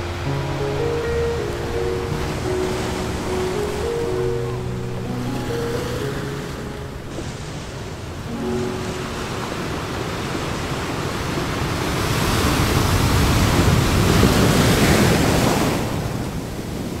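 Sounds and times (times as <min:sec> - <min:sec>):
ocean surf on beach: 0:00.0 - 0:17.0.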